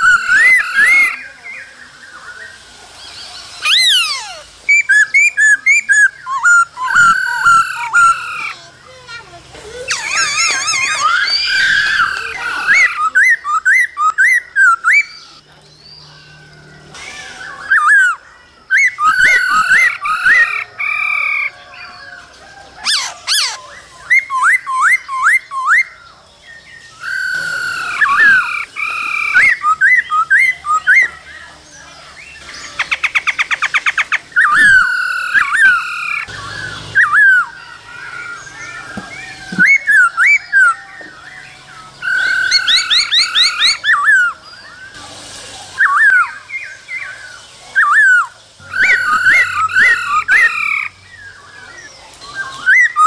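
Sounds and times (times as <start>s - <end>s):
bird singing whistled notes: 0.0s - 8.8s, 9.9s - 45.0s, 45.8s - 53.0s.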